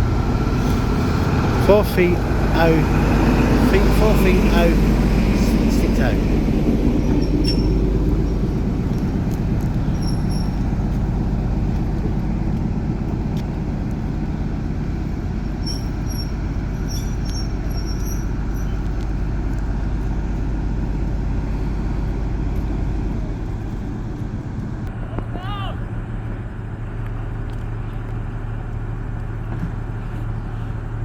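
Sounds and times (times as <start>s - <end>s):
diesel train rumble: 0.0s - 31.0s
wheels on rails: 0.0s - 31.0s.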